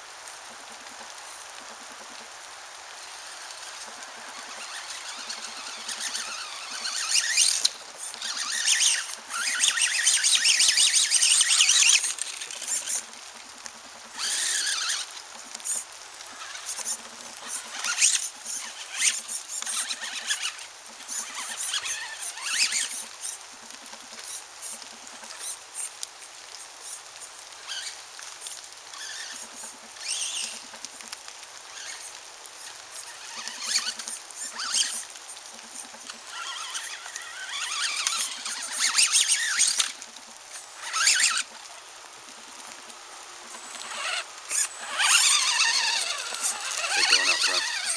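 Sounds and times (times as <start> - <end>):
rc buggy motor whining: 0.2 - 47.9
tyres scrabbling on dirt: 3.0 - 25.6, 31.7 - 47.9.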